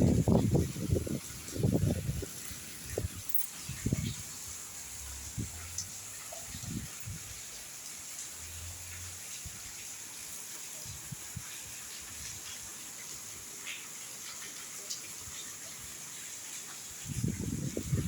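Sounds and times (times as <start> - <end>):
faint drips: 0.0 - 18.0
steady rain hiss: 0.0 - 18.0.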